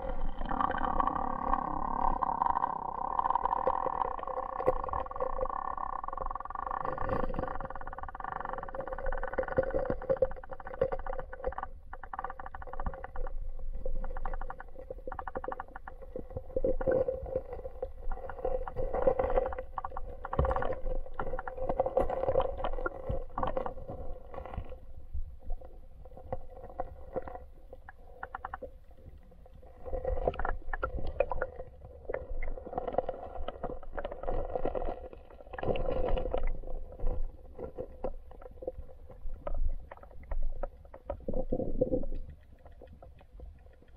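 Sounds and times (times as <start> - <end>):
muffled underwater river current: 0.0 - 43.9.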